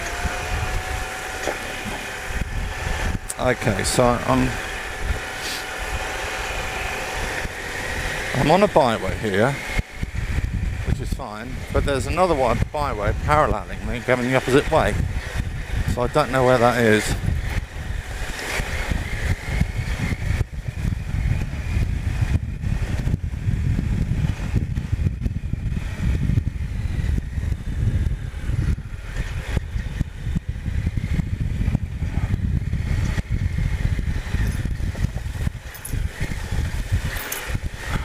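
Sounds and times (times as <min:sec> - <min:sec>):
motorcycle engine rumble: 0:00.0 - 0:38.0.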